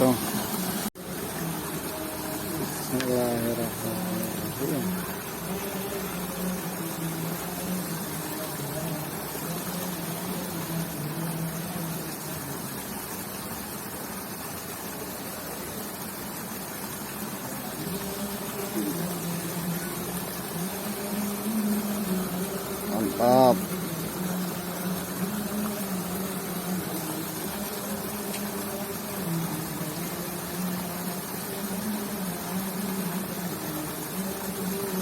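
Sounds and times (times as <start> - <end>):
flowing water rushing: 0.0 - 35.0.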